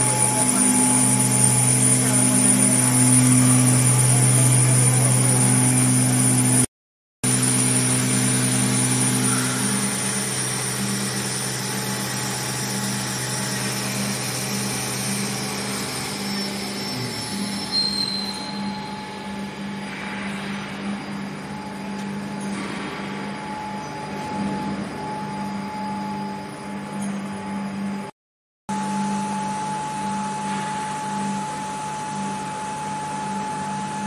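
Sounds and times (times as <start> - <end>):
faint high whine: 0.0 - 6.7, 7.3 - 28.1
heavy factory machinery drone: 0.0 - 28.1, 28.7 - 34.0.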